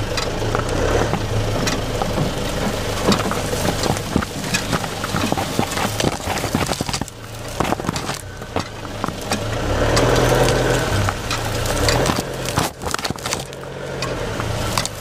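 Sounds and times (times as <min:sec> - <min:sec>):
low engine hum: 0:00.0 - 0:15.0
grass and twigs brushing underbody: 0:01.8 - 0:15.0.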